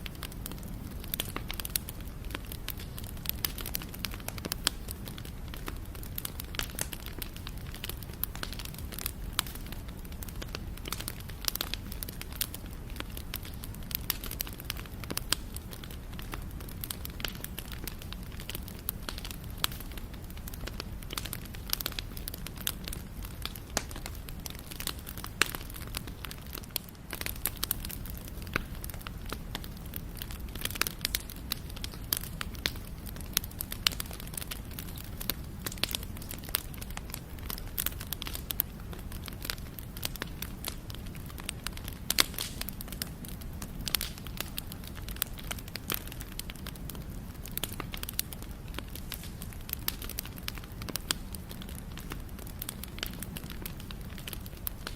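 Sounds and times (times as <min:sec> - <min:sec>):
fire crackles and pops: 0:00.0 - 0:54.9
low rumble of flames: 0:00.0 - 0:54.9.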